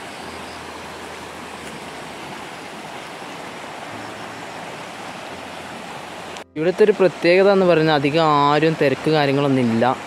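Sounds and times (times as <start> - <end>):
small waterfall rushing: 0.0 - 10.0
stream running over rocks: 0.0 - 10.0.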